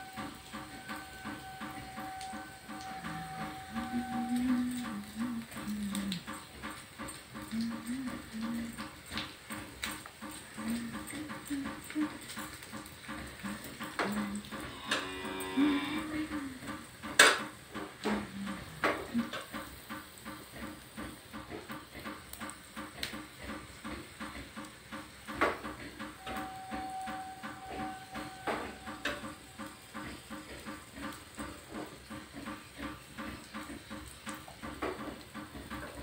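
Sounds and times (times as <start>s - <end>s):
hot oil crackling in a pan: 0.0s - 36.0s.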